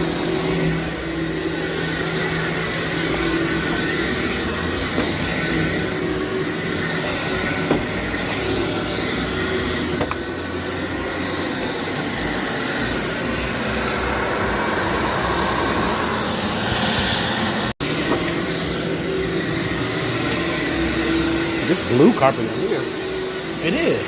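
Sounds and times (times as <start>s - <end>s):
vacuum cleaner running on carpet: 0.0s - 24.0s.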